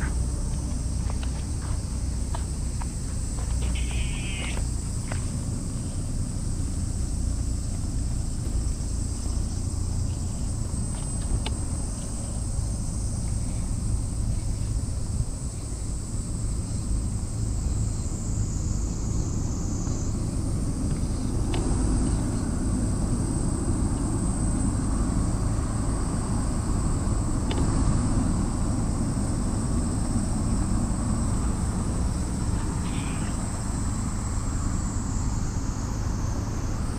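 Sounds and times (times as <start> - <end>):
insects chirring: 0.0 - 36.9.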